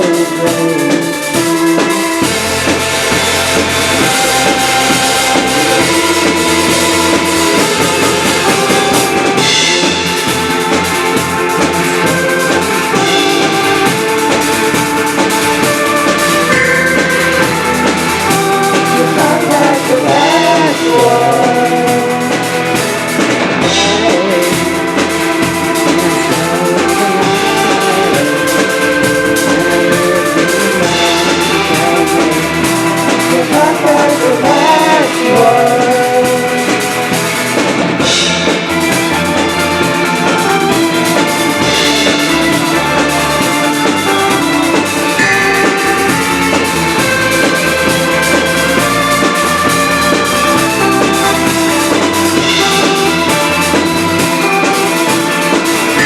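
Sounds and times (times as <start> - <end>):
drum kit beat: 0.0 - 56.0
live band playing: 0.0 - 56.0.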